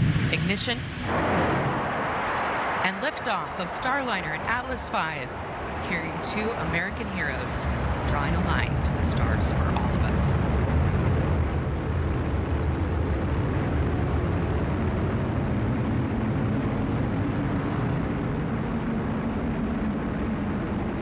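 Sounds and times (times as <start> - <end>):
rocket engine deep rushing rumble: 0.0 - 21.0.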